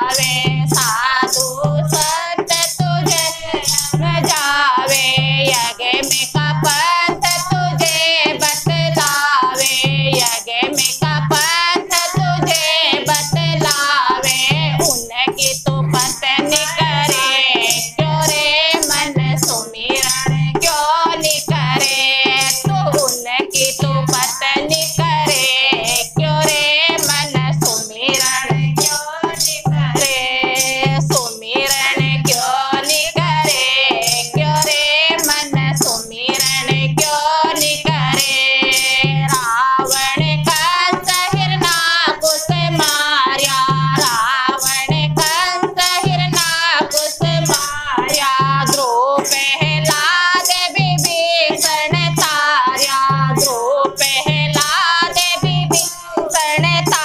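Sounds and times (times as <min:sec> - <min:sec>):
hand drum beat: 0:00.0 - 0:57.0
handheld rattles shaken: 0:00.0 - 0:57.0
women singing devotional song: 0:00.0 - 0:57.0.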